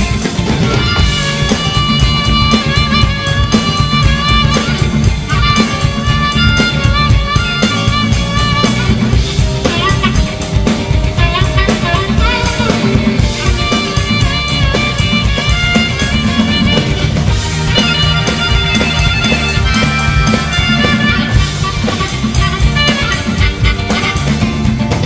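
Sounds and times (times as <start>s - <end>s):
bass guitar: 0.0s - 25.0s
harmonica solo: 0.0s - 25.0s
rhythm guitar: 0.0s - 25.0s
steady drum beat: 0.0s - 25.0s.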